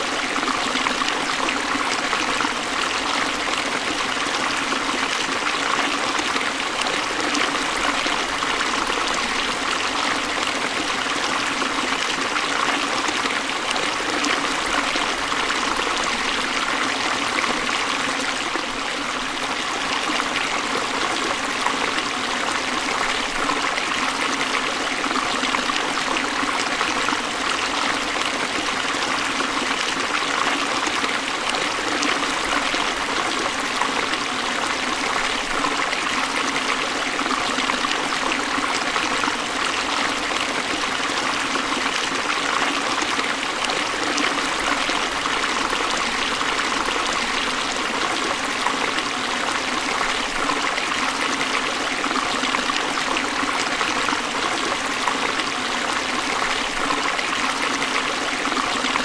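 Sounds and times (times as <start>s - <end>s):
stream flowing water: 0.0s - 59.0s.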